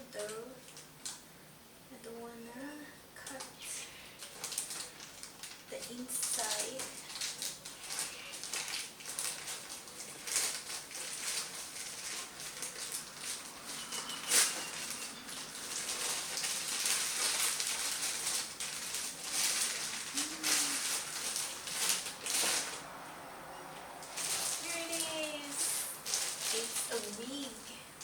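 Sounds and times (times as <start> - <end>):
plastic crinkling: 0.0 - 1.2, 3.2 - 23.0, 23.7 - 28.0
scissors cutting plastic packaging: 3.2 - 22.8, 24.0 - 27.8.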